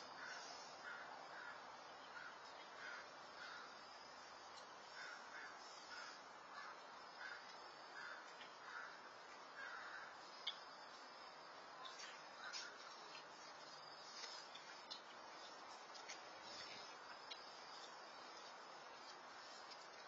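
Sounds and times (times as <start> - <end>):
crows cawing faintly: 0.0 - 19.2
microphone hiss: 0.0 - 20.0.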